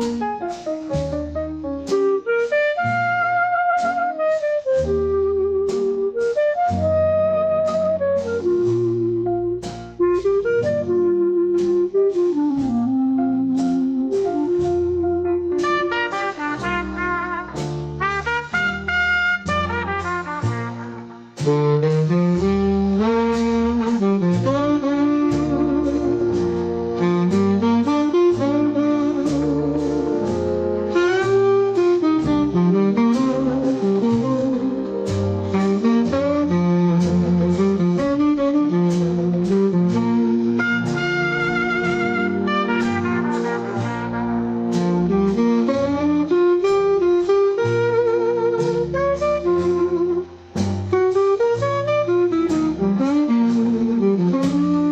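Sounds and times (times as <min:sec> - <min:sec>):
reed horn melody: 0:00.0 - 0:54.9
walking bass line: 0:00.0 - 0:54.9.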